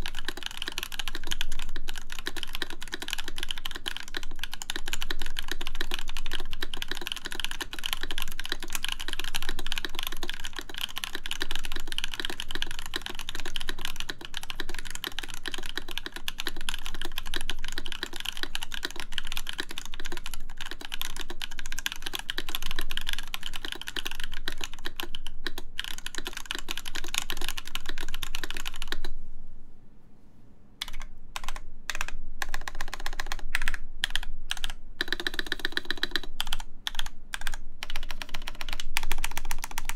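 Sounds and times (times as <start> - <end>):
mechanical keyboard typing: 0.0 - 29.1, 30.8 - 39.9.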